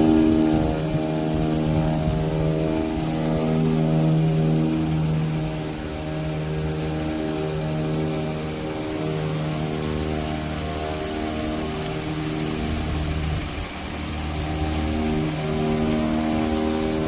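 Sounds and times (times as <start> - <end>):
pressure washer motor and pump hum: 0.0 - 17.0
water spray hissing: 0.0 - 17.0.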